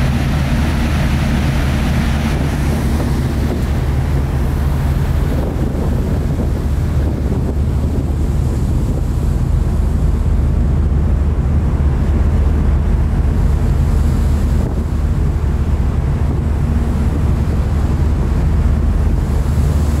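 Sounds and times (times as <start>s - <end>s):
rush of the sea: 0.0s - 20.0s
ship engine hum: 0.0s - 20.0s
wind buffeting microphone: 0.0s - 20.0s.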